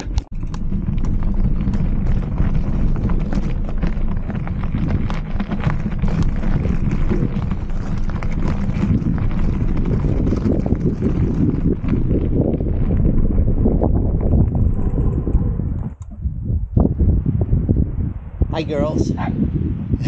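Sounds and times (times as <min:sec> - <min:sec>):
bike clicks and rattles: 0:00.0 - 0:16.3
wind buffeting microphone: 0:00.0 - 0:20.0.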